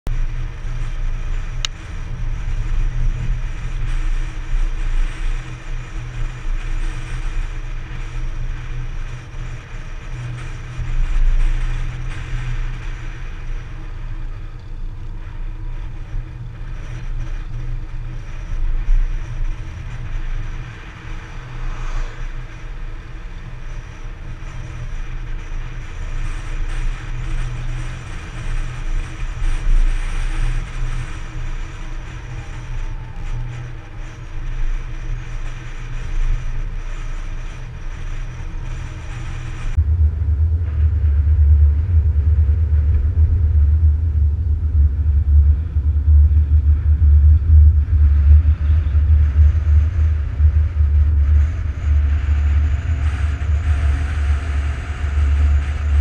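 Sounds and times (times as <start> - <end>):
vehicle engine running: 0.0 - 56.0
wind buffeting microphone: 0.1 - 56.0.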